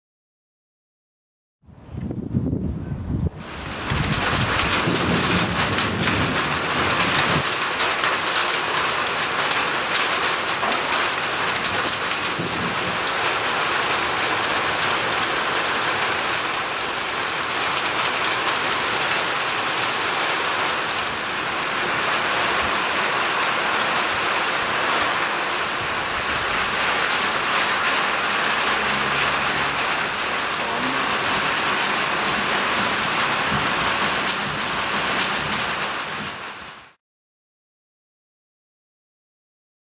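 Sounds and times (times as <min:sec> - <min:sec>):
heavy rain pouring: 0:03.2 - 0:37.0.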